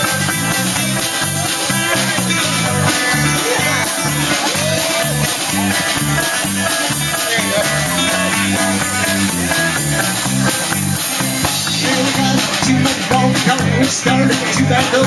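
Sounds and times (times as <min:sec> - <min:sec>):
guitar: 0:00.0 - 0:15.0
steady beat: 0:00.0 - 0:15.0.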